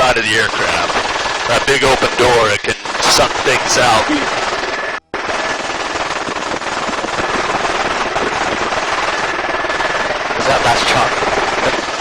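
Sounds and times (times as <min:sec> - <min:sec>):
faint steady whine: 0:00.0 - 0:12.0
helicopter rotor and engine noise: 0:00.0 - 0:12.0.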